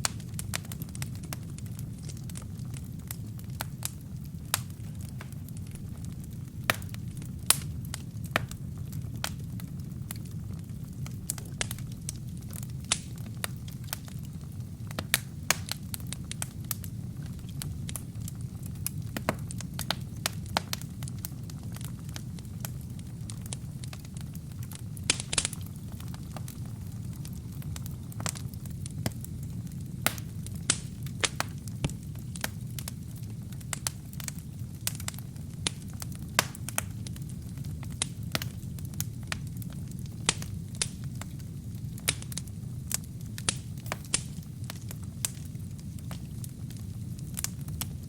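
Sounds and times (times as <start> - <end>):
fire burning in a fireplace: 0.0 - 48.0
fire crackling and popping: 0.0 - 48.0.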